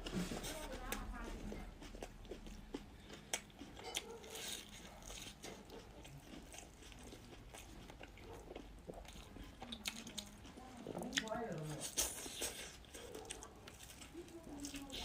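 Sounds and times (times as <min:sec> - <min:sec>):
person chewing and biting: 0:00.8 - 0:10.6, 0:11.2 - 0:15.0.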